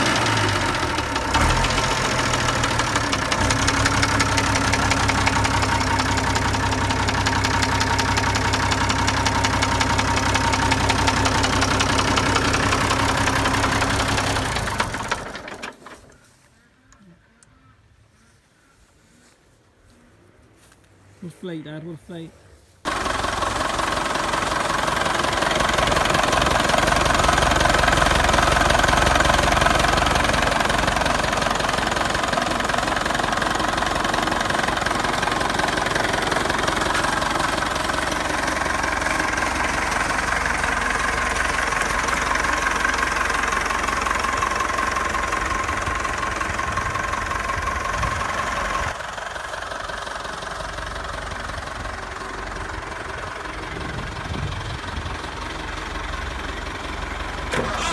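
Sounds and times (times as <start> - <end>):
tractor engines running: 0.0 - 17.1, 20.5 - 57.9.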